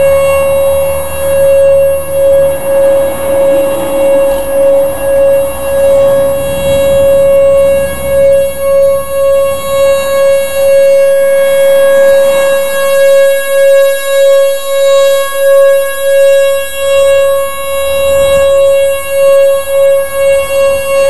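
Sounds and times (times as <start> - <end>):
warning siren steady tone: 0.0 - 21.0.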